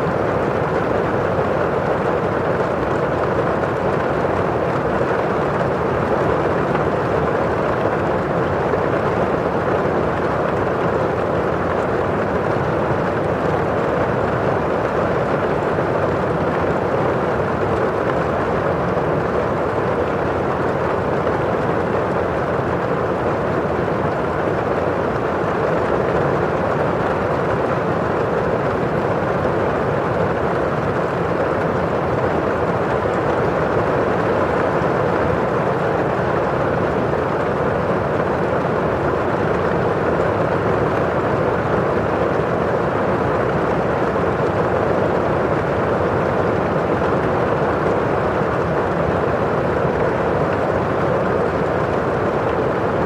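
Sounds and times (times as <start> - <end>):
steady rain on window glass: 0.0 - 53.0.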